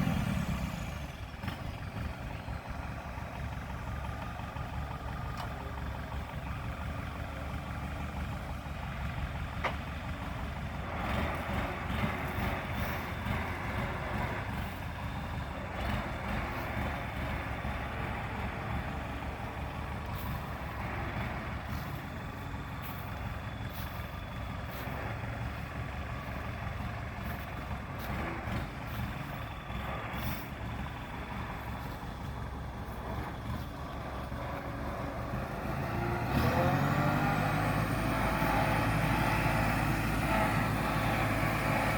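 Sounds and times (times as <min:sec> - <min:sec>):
farm machine engine running: 0:00.0 - 0:41.9.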